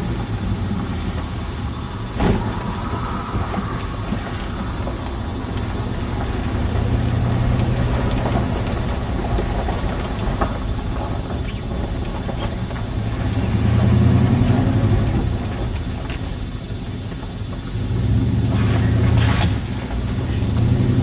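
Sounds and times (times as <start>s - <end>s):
cab knocks and rattles: 0.0s - 21.0s
engine rumble inside car: 0.0s - 21.0s.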